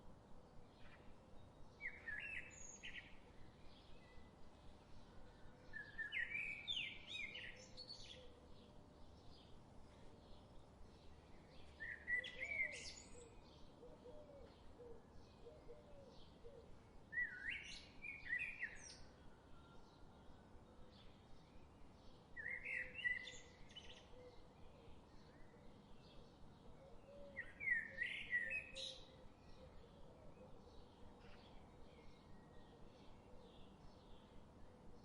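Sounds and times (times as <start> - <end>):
songbird singing: 0.0 - 35.0.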